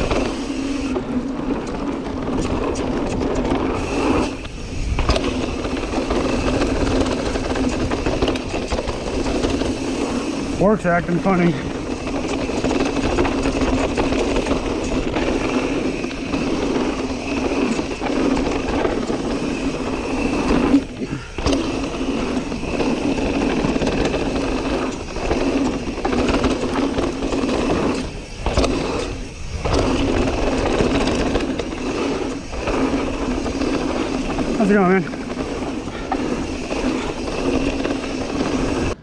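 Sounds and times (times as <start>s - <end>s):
bike rattling: 0.0s - 39.0s
tyres rolling over dirt and rock: 0.0s - 39.0s
wind rushing over microphone: 0.0s - 39.0s.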